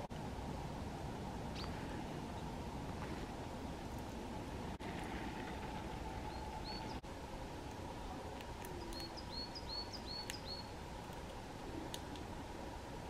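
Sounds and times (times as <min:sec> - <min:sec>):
low background rush: 0:00.0 - 0:13.0.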